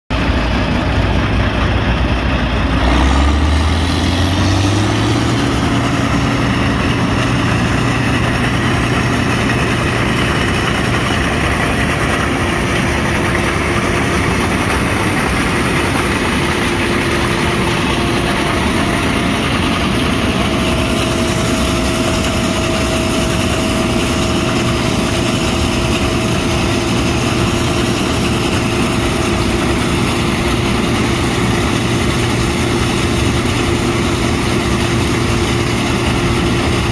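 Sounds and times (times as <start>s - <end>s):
diesel engine running: 0.1s - 36.9s
machine whine: 0.1s - 36.9s.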